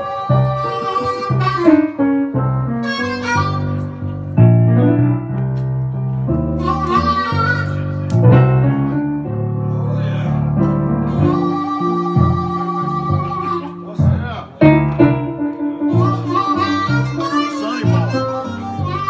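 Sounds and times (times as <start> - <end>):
amplified harmonica: 0.0 - 4.9, 6.3 - 8.6, 11.0 - 19.0
electric keyboard blues: 0.0 - 19.0.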